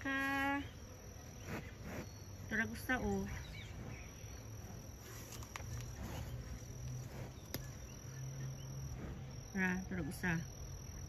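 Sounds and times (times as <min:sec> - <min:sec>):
insects chirring: 0:00.0 - 0:11.0
low steady hum: 0:00.0 - 0:11.0.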